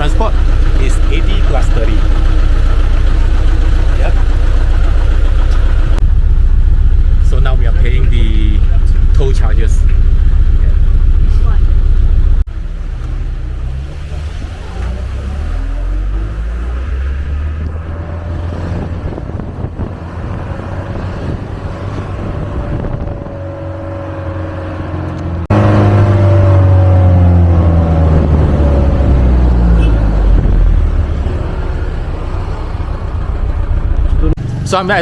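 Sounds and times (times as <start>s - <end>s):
minibus engine revving: 0.0s - 35.0s.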